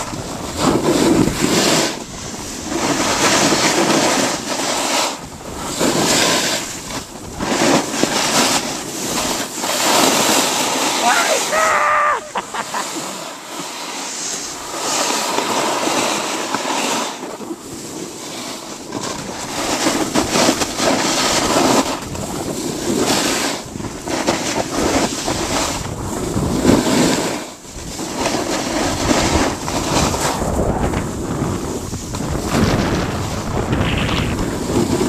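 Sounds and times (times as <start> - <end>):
wind rushing over microphone: 0.0 - 13.6, 17.6 - 35.0
board edges scraping snow: 0.0 - 35.0.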